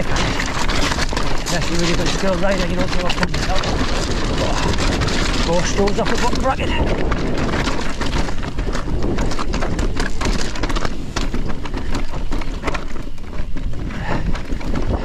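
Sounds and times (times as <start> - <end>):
stones clacking against bike frame: 0.0 - 15.0
tyres crunching over stones: 0.0 - 15.0
wind rumble on microphone: 0.0 - 15.0.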